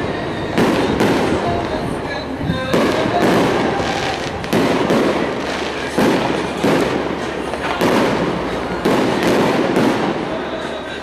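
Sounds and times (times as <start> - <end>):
aerial fireworks bangs: 0.0 - 10.8.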